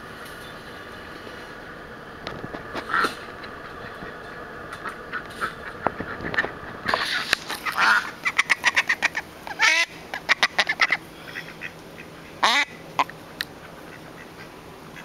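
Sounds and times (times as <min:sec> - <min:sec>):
ducks quacking: 0:02.4 - 0:15.0
long falling duck calls: 0:02.8 - 0:15.0.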